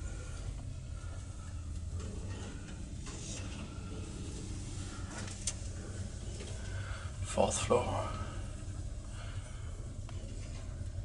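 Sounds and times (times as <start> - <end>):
elevator humming and rumbling: 0.0 - 11.0.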